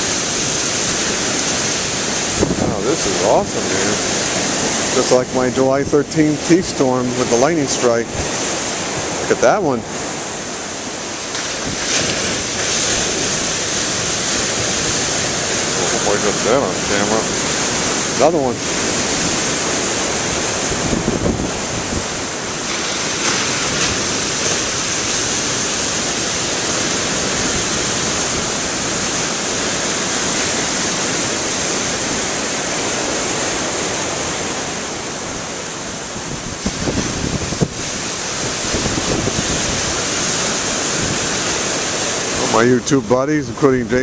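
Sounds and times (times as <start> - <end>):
storm waves crashing on rocks: 0.0 - 44.0
wind buffeting microphone: 0.0 - 44.0.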